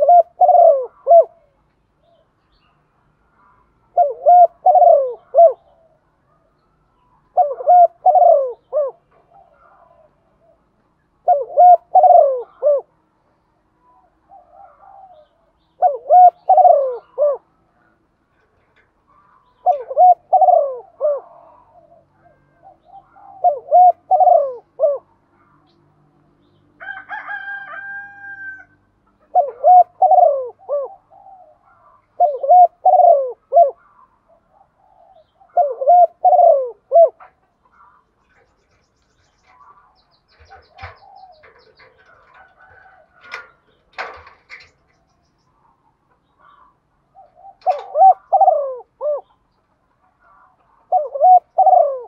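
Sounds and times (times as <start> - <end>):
dove cooing: 0.0 - 2.4, 3.3 - 13.1, 13.8 - 25.7, 26.8 - 52.0.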